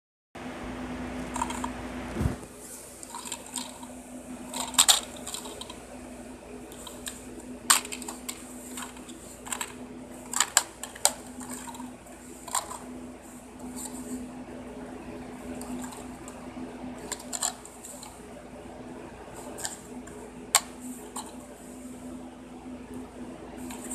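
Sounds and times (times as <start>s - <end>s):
steady low hum: 0.4s - 23.9s.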